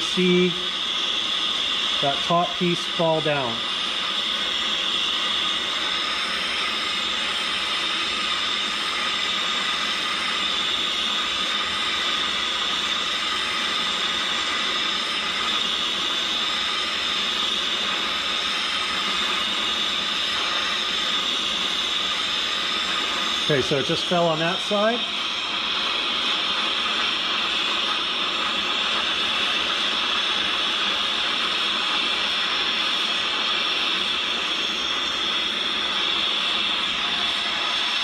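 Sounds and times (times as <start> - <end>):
soldering torch hissing: 0.0 - 38.0.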